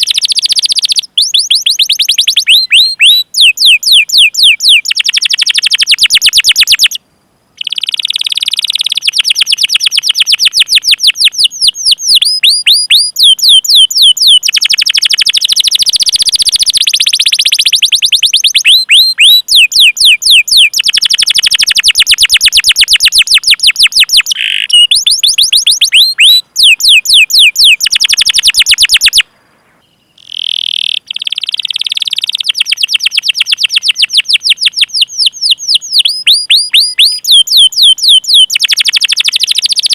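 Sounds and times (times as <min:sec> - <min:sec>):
canary singing rolling song: 0:00.0 - 0:07.0, 0:07.6 - 0:39.9.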